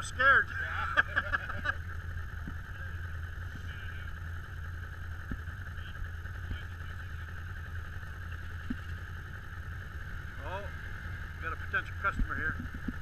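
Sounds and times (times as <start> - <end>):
higher-pitched drone: 0.0 - 12.8
atv engines idling: 0.0 - 13.0.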